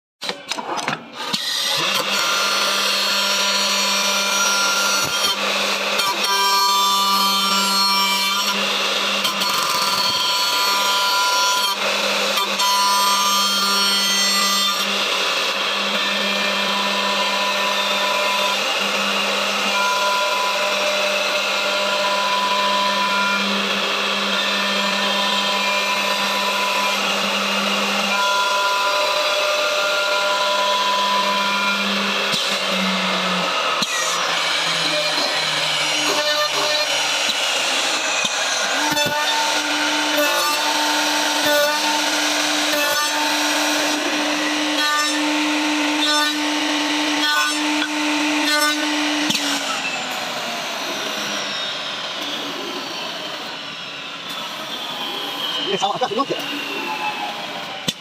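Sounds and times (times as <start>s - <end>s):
cutters shaping wood: 0.2s - 58.0s
lathe motor humming whine: 1.3s - 6.6s, 8.5s - 12.6s, 14.8s - 58.0s.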